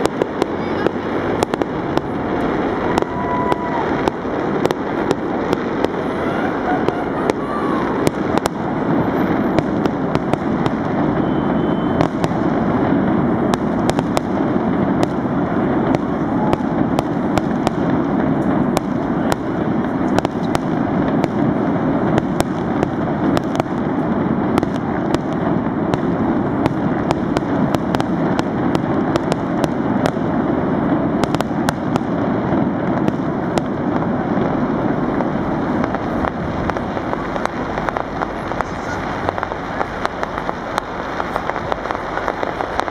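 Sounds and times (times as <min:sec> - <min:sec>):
dense fireworks hiss: 0:00.0 - 0:42.9
fireworks cracking and popping: 0:00.0 - 0:42.9.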